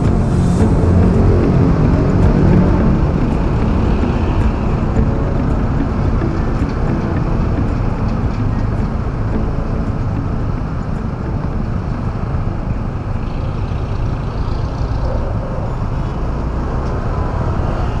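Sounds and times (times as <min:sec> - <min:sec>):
deep road rumble: 0:00.0 - 0:18.0
motorcycle engine hum: 0:00.0 - 0:18.0
traffic: 0:00.0 - 0:18.0.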